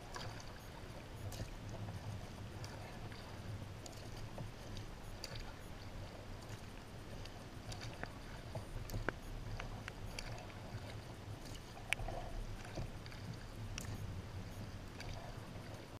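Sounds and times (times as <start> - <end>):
water dripping and splashing: 0.0 - 15.9
paddle dipping in water: 0.0 - 16.0
steady low rumble: 0.0 - 16.0.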